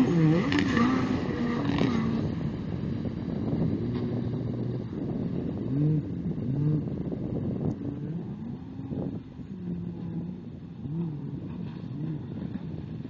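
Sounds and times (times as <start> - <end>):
jet ski engines revving: 0.0 - 13.0.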